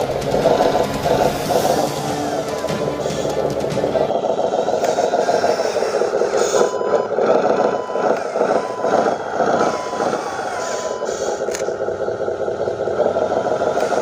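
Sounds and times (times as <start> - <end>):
electric motor and gearbox running: 0.0 - 14.0.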